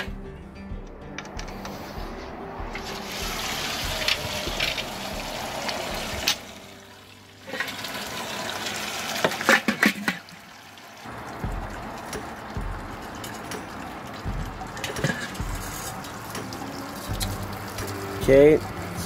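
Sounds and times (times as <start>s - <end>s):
liquid running and splashing: 2.8s - 19.0s.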